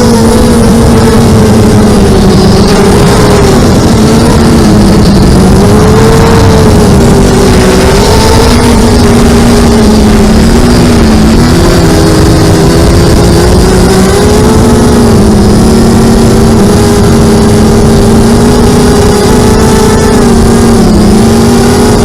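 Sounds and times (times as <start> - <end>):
drone motors buzzing: 0.0 - 22.0
rushing wind noise: 0.0 - 22.0.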